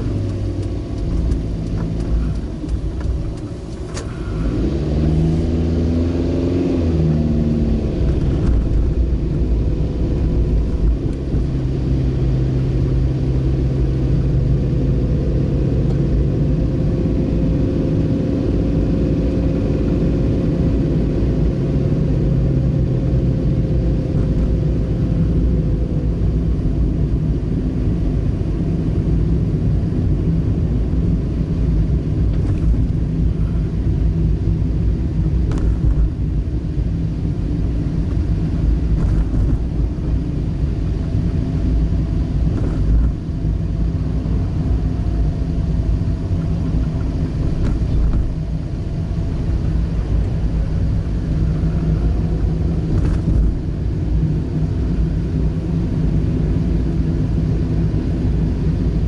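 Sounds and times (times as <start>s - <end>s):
car engine hum: 0.0s - 59.0s
tyre road noise: 0.0s - 59.0s.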